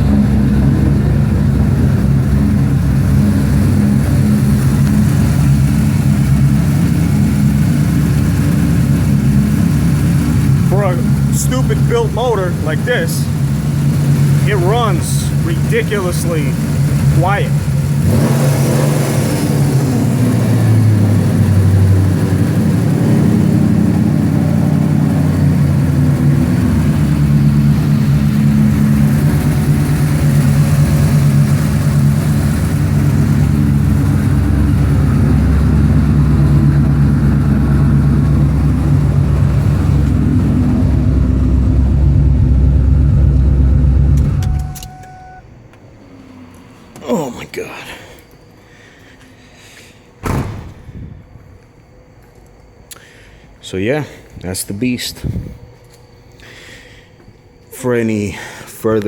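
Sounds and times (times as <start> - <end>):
car engine idling and revving: 0.0 - 47.4.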